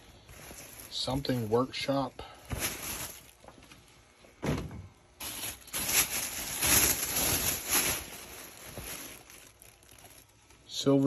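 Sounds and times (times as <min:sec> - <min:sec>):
plastic bag rustling: 0:00.0 - 0:04.1, 0:05.2 - 0:11.0.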